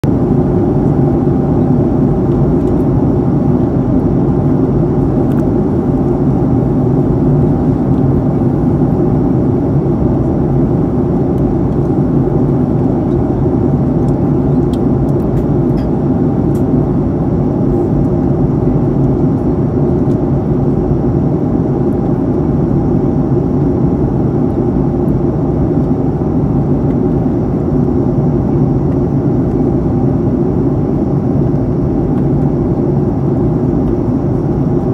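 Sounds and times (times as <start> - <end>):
low drone of jet engines: 0.0 - 34.9.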